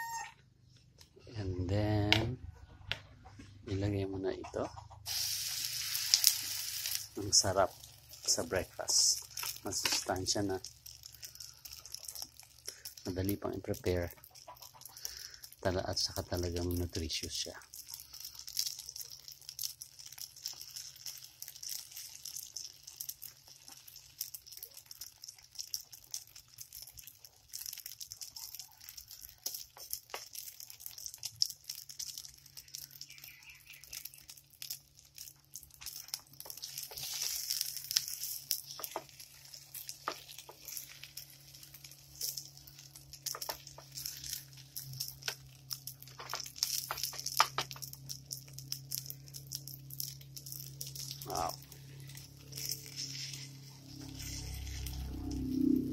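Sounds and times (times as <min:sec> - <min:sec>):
omelette sizzling in a pan: 0:05.0 - 0:55.9.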